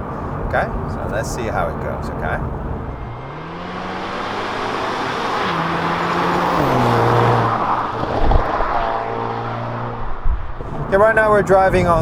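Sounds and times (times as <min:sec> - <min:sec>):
car engine accelerating hard: 0:00.3 - 0:12.0.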